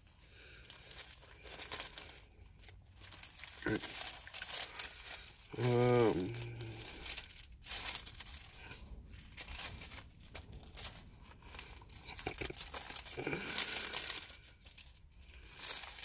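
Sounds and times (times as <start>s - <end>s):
thin pages rustling: 0.0s - 16.0s.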